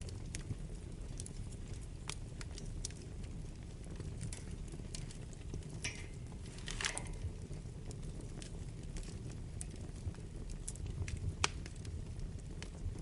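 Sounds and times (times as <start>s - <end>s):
fire crackling in a fireplace: 0.0s - 13.0s
hiss from fire: 0.0s - 13.0s.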